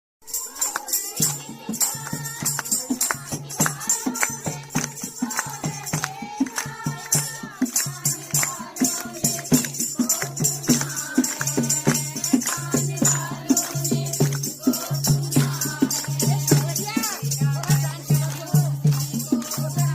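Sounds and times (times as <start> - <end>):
hand percussion with jingling metal: 0.2 - 19.9
voices singing: 0.2 - 19.9.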